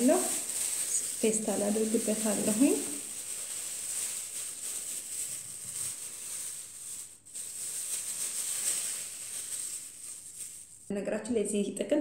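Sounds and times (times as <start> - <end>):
plastic bag rustling: 0.0 - 10.9.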